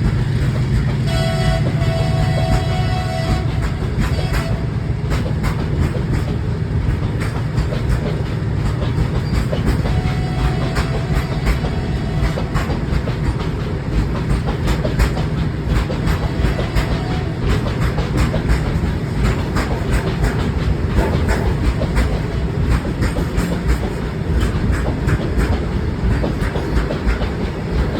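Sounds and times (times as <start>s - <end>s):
train rumble: 0.0s - 27.9s
train wheels clattering over joints: 0.0s - 27.9s.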